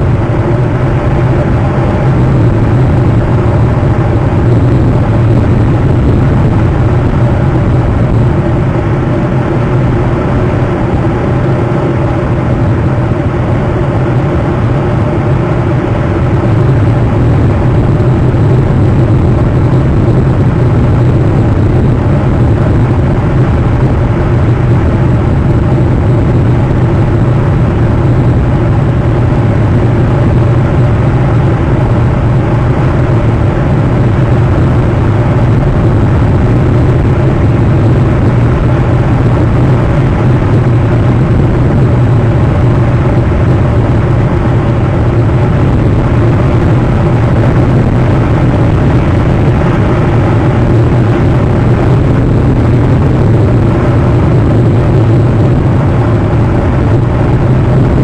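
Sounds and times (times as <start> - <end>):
low rumble: 0.0 - 58.0
noisy hiss: 0.0 - 58.0.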